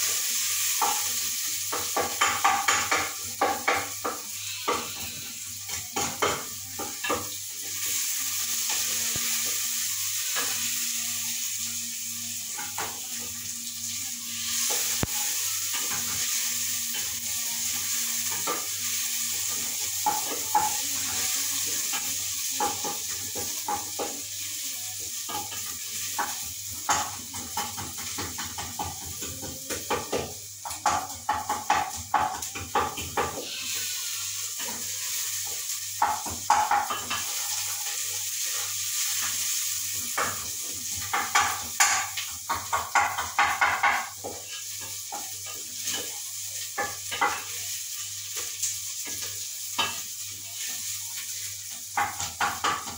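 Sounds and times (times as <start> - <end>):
onions sizzling in a pot: 0.0 - 52.9.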